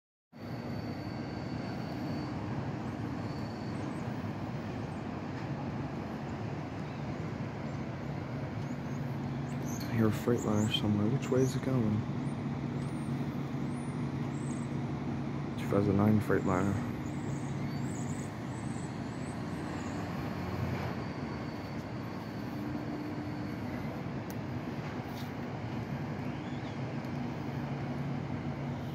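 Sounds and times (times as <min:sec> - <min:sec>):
diesel engine rumbling: 0:00.4 - 0:28.9
faint high whine: 0:00.4 - 0:28.9.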